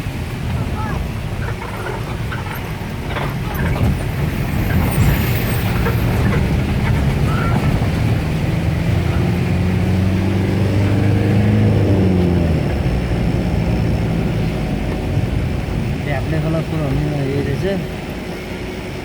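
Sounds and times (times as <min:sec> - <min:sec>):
heavy truck engine rumbling: 0:00.0 - 0:19.0.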